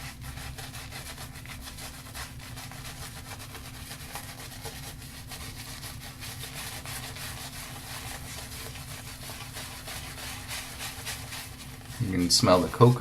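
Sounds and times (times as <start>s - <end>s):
shaving brush rubbing soap: 0.0s - 13.0s
steady low hum: 0.0s - 13.0s.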